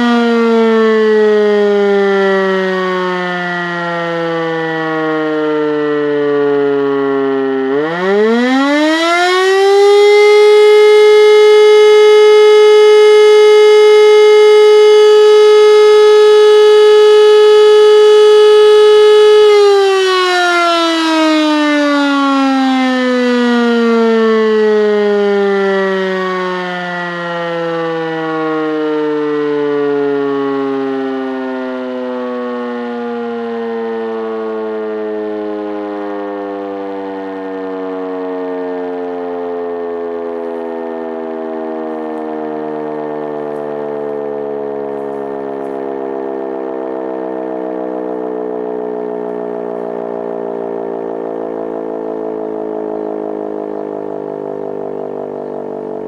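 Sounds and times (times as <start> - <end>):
siren winding down: 0.0 - 56.0.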